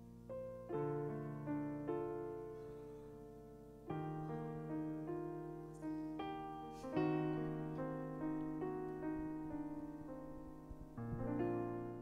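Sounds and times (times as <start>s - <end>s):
slow piano ballad: 0.0s - 12.0s.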